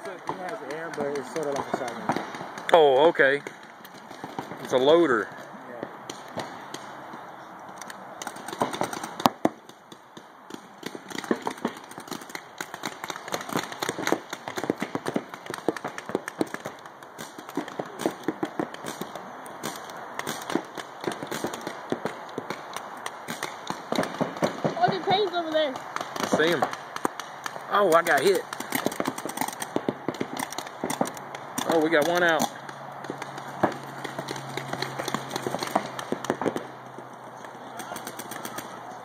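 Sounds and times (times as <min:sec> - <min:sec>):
paintball markers firing: 0:00.0 - 0:38.9.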